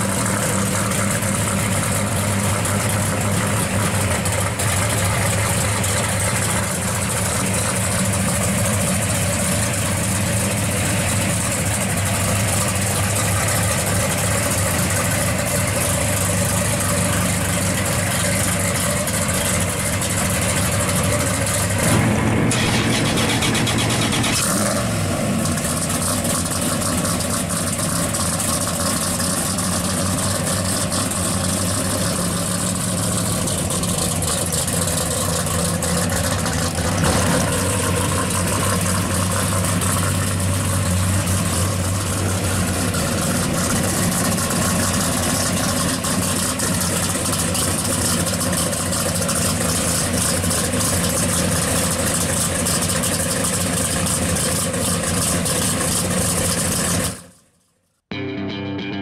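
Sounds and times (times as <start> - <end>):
car engine idling: 0.0 - 57.4.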